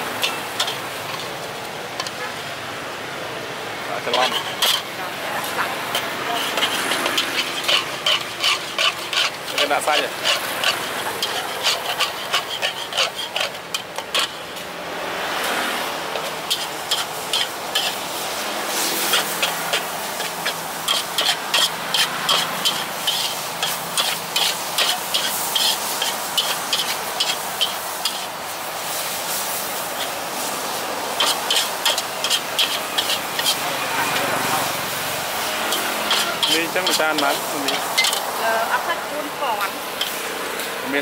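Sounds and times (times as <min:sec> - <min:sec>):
cooking utensils clinking and scraping: 0:00.1 - 0:02.2, 0:04.0 - 0:14.6, 0:16.0 - 0:18.3, 0:19.0 - 0:40.3.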